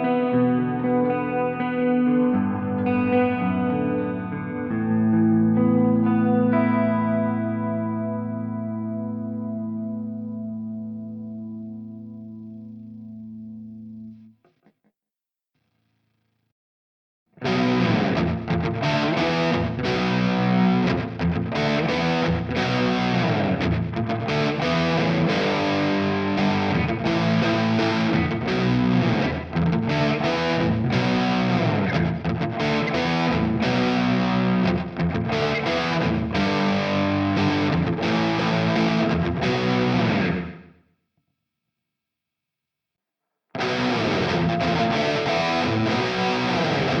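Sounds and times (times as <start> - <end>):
distorted electric guitar riff: 0.0 - 14.3, 17.4 - 40.8, 43.6 - 47.0.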